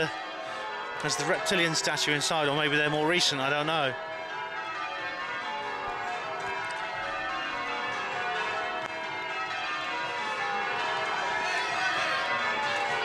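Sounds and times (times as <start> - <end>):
tower bells ringing: 0.0 - 13.0.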